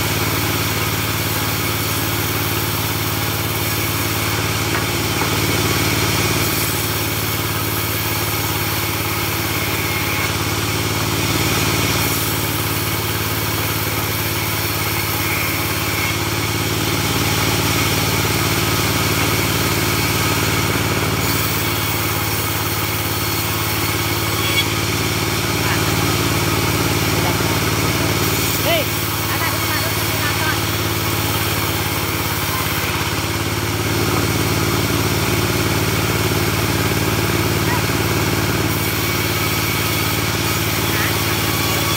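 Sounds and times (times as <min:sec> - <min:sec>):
band sawmill engine drone: 0:00.0 - 0:41.9.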